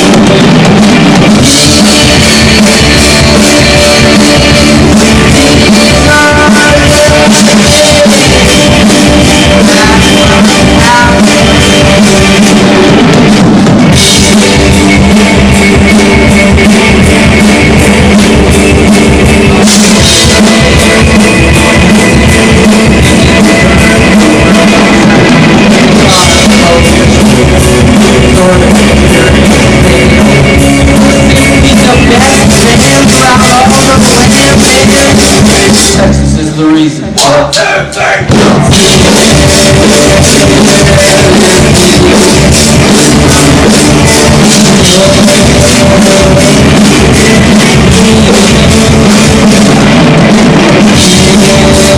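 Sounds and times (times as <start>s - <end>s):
electric guitar: 0.0s - 37.2s, 38.2s - 51.9s
drum kit: 0.0s - 51.9s
person singing: 1.4s - 13.0s, 19.5s - 49.9s, 50.8s - 51.9s.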